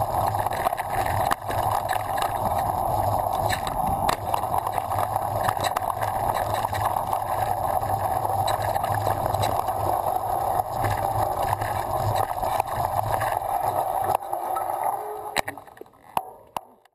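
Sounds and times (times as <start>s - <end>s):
wind and tyre rush: 0.0s - 14.2s.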